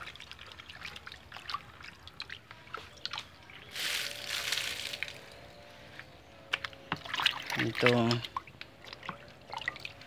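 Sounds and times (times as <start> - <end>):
water sloshing in a bucket: 0.0 - 5.4, 6.0 - 10.0.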